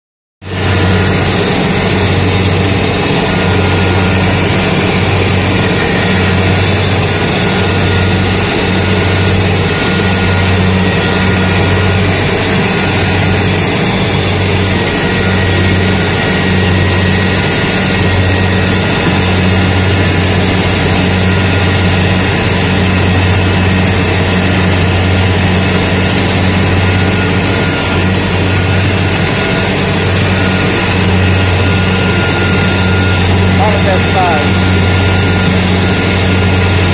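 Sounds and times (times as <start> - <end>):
combine harvester droning: 0.4 - 36.9.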